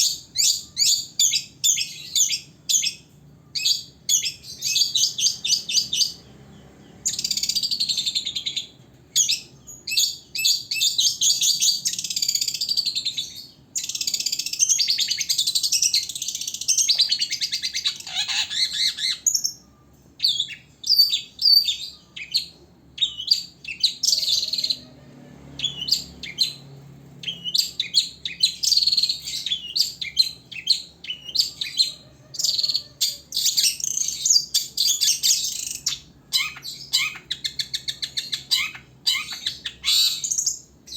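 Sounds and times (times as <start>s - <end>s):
bird high chattering chirps: 0.0s - 40.9s.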